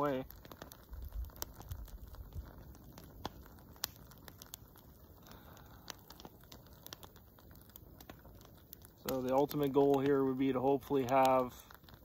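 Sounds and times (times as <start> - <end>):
fuel cube crackling and ticking: 0.0 - 12.0.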